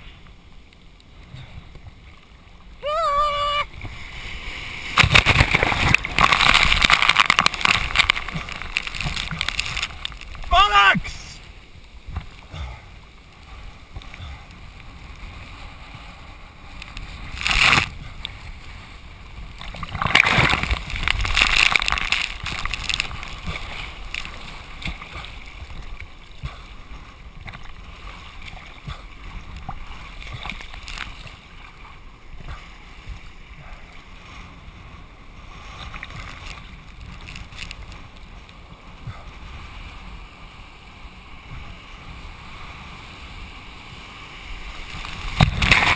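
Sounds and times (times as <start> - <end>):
whitewater sloshing and splashing: 0.0 - 45.9.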